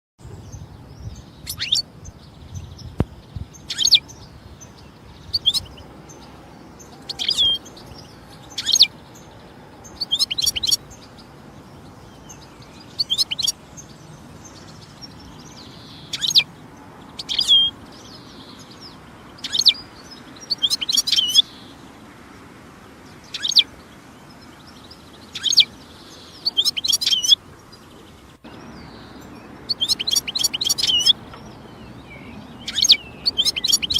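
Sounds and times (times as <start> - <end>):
goldfinch twittering: 0.5 - 11.2, 11.8 - 21.8, 23.2 - 23.8, 24.4 - 27.4, 28.5 - 33.9.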